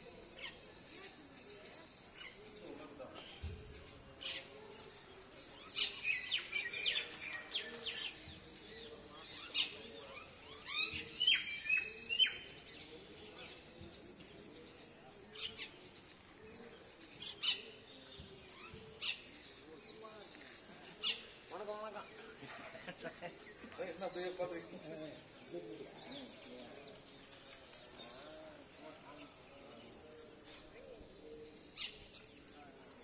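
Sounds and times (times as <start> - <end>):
birds chirping and calling: 0.1 - 33.0.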